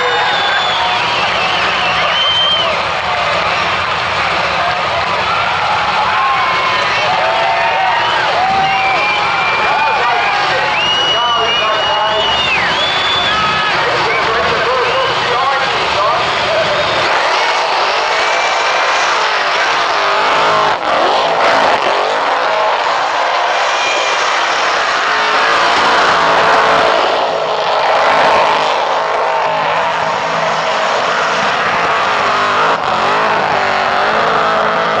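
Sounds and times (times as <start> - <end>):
car engine revving high: 0.0 - 35.0.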